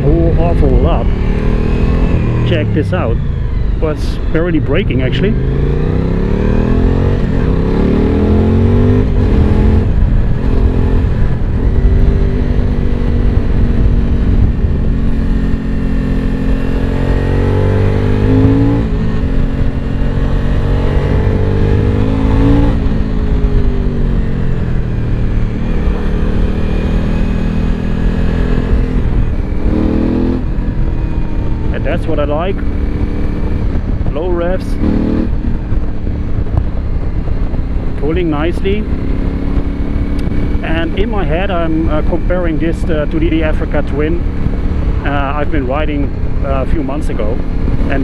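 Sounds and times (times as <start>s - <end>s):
motorcycle engine accelerating: 0.0s - 48.0s
wind rush: 0.0s - 48.0s.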